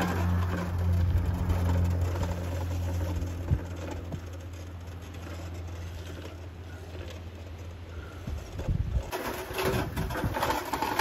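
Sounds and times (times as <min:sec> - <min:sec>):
scooter motor humming: 0:00.0 - 0:11.0.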